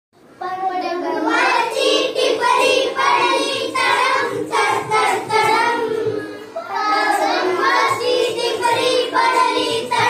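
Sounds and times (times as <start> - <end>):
girls singing together: 1.1 - 10.0.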